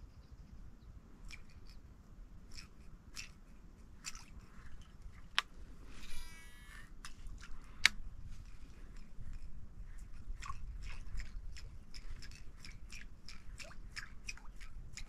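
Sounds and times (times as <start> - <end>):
lure ticking and splashing on water: 1.2 - 5.6, 6.9 - 15.0.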